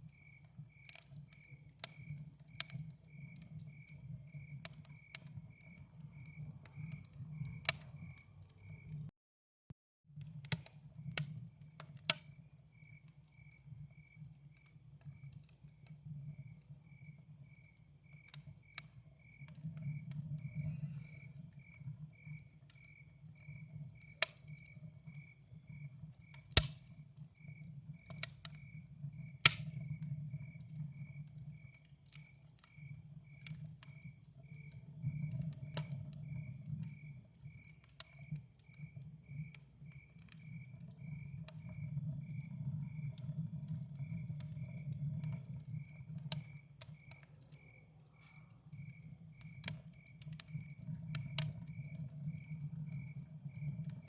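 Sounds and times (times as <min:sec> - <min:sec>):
cricket chirping: 0:00.0 - 0:09.0, 0:11.1 - 0:54.0
campfire crackling: 0:00.0 - 0:09.1, 0:10.2 - 0:54.0
fire popping: 0:00.0 - 0:09.1, 0:10.2 - 0:54.0.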